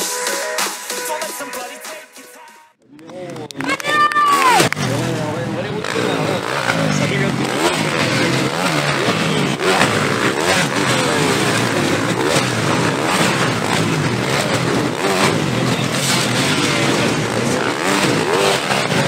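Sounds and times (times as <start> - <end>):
motocross bike engines revving: 3.1 - 19.0.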